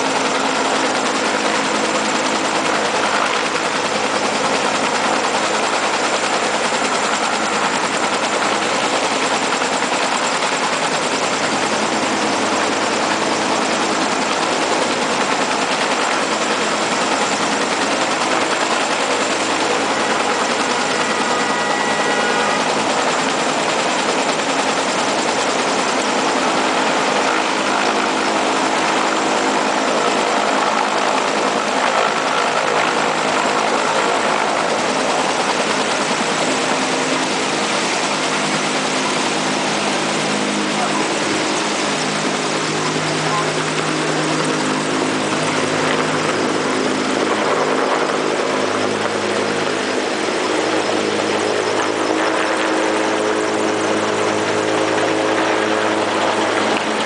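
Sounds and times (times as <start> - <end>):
helicopter hovering overhead: 0.0 - 57.0.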